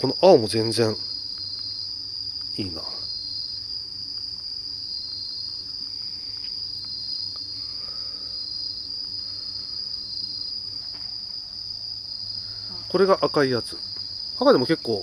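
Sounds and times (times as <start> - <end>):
high-pitched insect trill: 0.0 - 15.0
lower insect trill bursts: 0.0 - 15.0.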